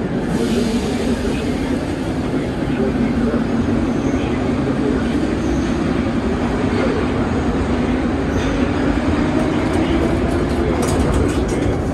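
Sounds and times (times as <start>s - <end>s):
metro train rumble and hum: 0.0s - 11.9s.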